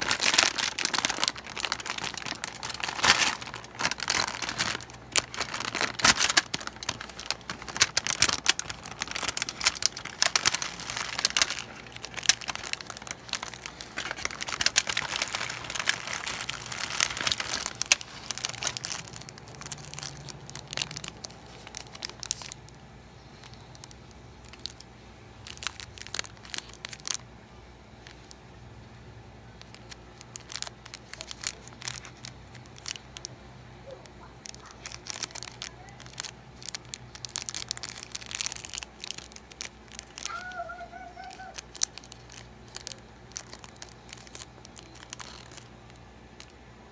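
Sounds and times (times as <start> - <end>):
plastic packaging crinkling: 0.0 - 28.5, 29.6 - 46.9.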